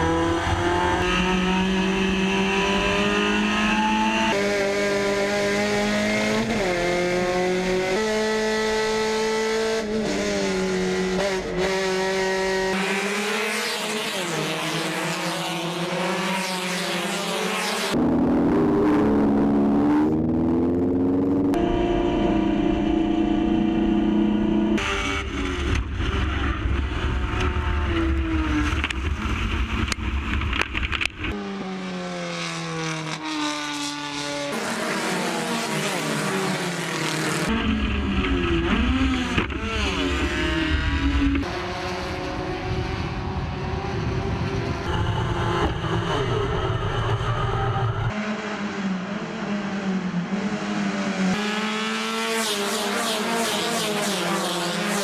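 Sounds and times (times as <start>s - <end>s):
race car engines passing by: 0.0s - 55.0s.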